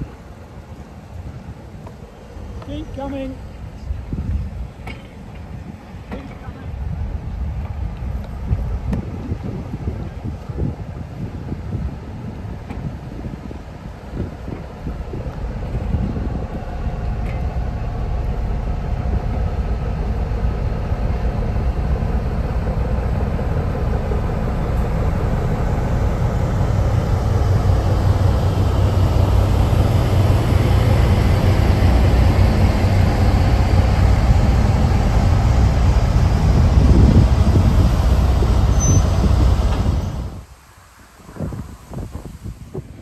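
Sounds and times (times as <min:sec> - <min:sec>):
diesel train rumbling: 0:00.0 - 0:43.0.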